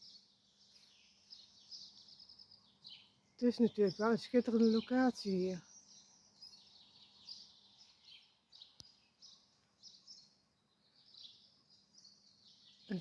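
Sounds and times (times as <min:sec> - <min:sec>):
faint birdsong chirps: 0:00.0 - 0:13.0.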